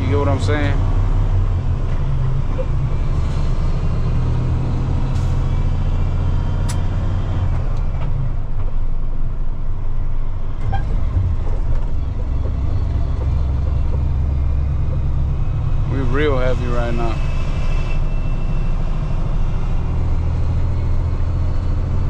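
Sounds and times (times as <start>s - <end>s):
diesel truck engine rumbling: 0.0s - 22.0s.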